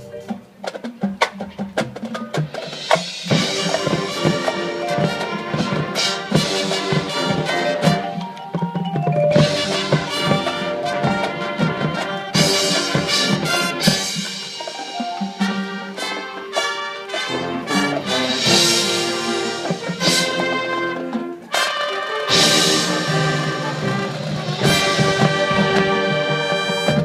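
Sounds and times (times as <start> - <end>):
mallet percussion: 0.0 - 27.0
drumline drumming: 0.3 - 27.0
brass horns playing chords: 3.3 - 8.2, 9.4 - 14.7, 15.4 - 27.0.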